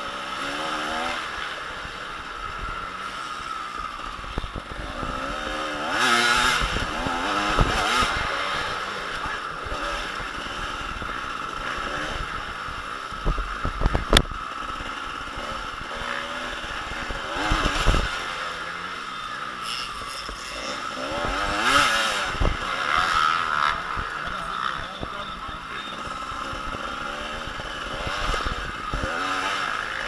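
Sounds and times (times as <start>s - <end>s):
motocross bikes revving: 0.0s - 30.0s.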